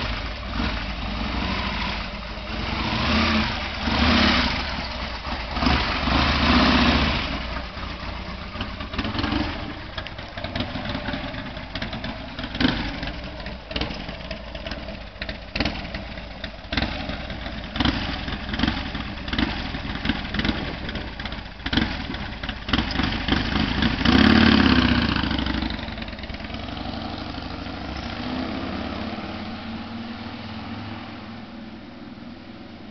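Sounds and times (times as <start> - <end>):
motorcycle engine revving and idling: 0.0 - 32.9.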